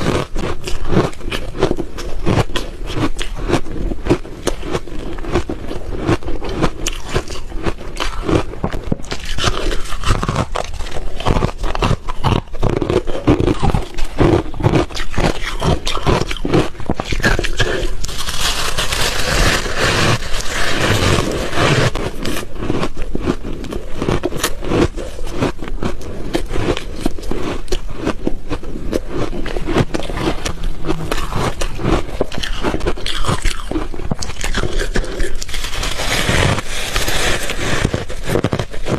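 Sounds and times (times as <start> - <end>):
ice cubes crunching between teeth: 0.0 - 38.9.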